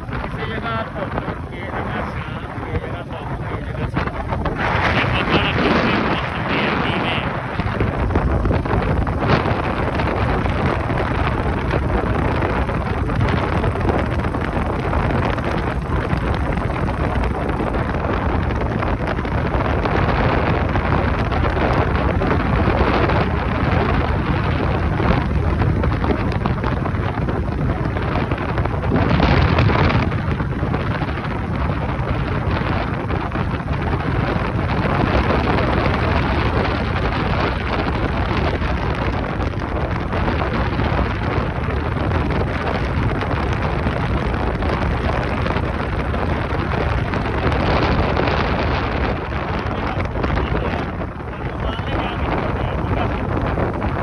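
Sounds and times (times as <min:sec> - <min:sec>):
heavy wind over microphone: 0:00.0 - 0:54.0
motorcycle running noise: 0:00.0 - 0:54.0.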